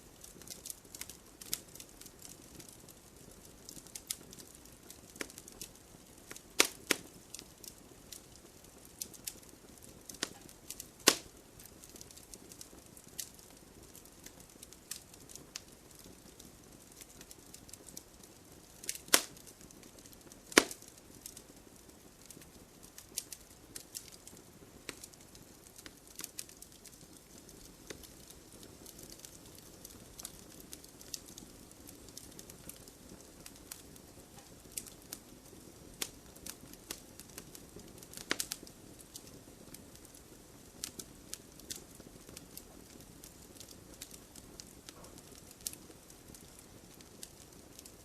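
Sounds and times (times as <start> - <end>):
low hiss of burning: 0.0 - 48.0
wood fire crackling: 0.0 - 48.0.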